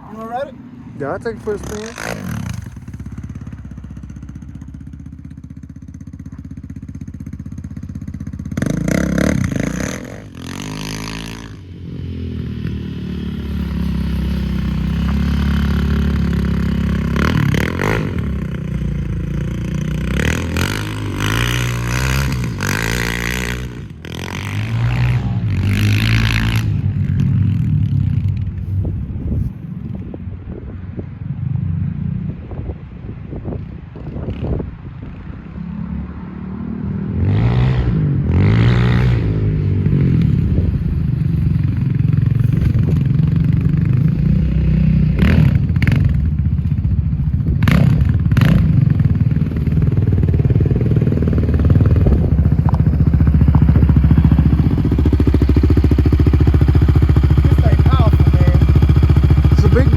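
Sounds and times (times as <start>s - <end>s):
atv engine revving: 0.0s - 28.4s, 37.2s - 59.9s.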